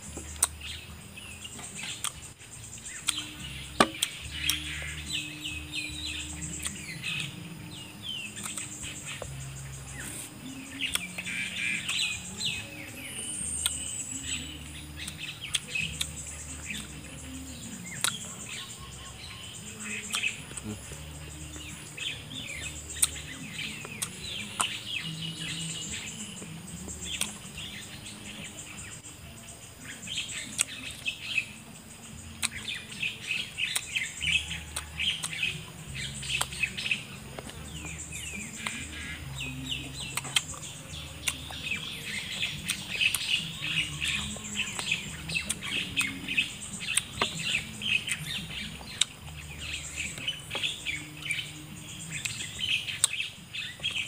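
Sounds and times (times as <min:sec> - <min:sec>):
chewing and mouth noises: 0:00.0 - 0:00.8, 0:01.6 - 0:18.6, 0:19.8 - 0:28.9, 0:30.4 - 0:31.1, 0:32.2 - 0:32.8, 0:33.5 - 0:53.2
small birds chirping: 0:00.0 - 0:54.0
sharp clicks of fruit eaten: 0:00.1 - 0:00.8, 0:01.6 - 0:12.5, 0:13.4 - 0:17.1, 0:17.8 - 0:18.6, 0:19.8 - 0:25.1, 0:26.2 - 0:28.9, 0:30.4 - 0:31.1, 0:32.3 - 0:51.4, 0:52.1 - 0:54.0.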